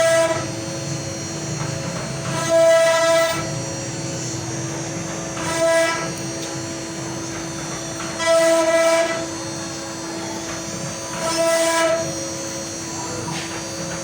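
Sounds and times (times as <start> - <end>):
cutter working wood: 0.0 - 14.0
router spindle whine: 0.0 - 14.0.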